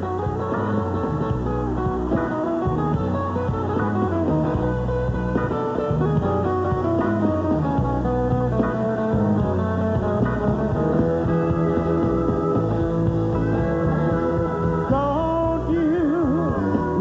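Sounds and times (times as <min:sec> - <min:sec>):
band music with guitar: 0:00.0 - 0:17.0.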